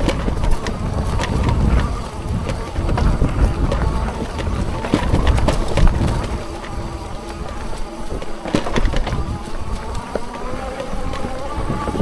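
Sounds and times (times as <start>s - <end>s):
bike rattling on stones: 0.0s - 12.0s
electric motor whining: 0.0s - 12.0s
tyres rumbling and wind: 0.0s - 12.0s.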